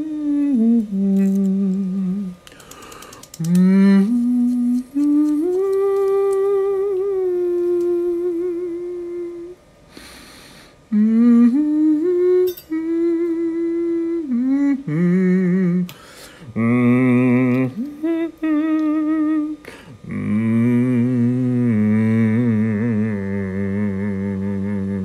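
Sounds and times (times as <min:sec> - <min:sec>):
person singing wordless tune: 0:00.0 - 0:09.7, 0:10.9 - 0:25.0.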